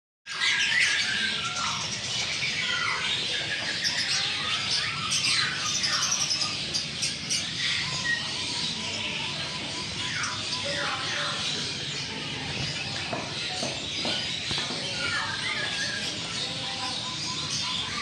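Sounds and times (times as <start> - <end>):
birds chirping and squawking: 0.3 - 18.0.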